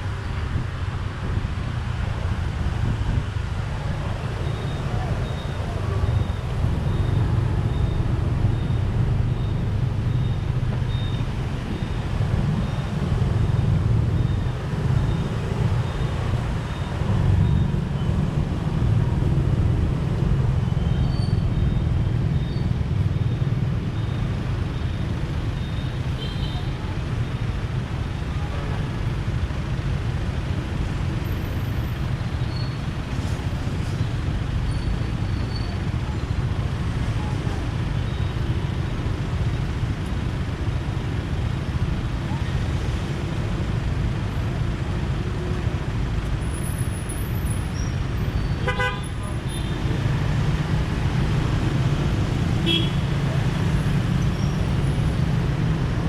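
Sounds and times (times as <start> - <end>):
city traffic: 0.0 - 56.0
road noise: 0.0 - 56.0.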